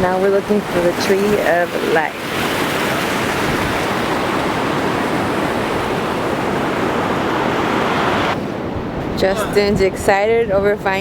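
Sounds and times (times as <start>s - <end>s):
ocean surf washing on beach: 0.0s - 10.9s.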